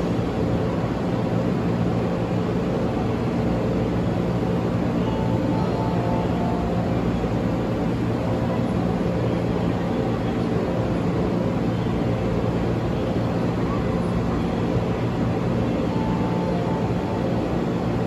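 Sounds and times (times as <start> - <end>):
low mechanical hum and rumble: 0.0 - 18.0.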